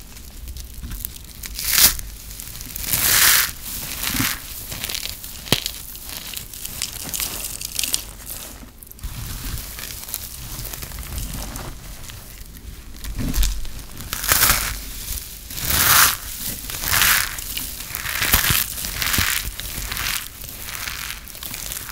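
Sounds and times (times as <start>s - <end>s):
hands crushing soap shavings: 0.0s - 21.9s.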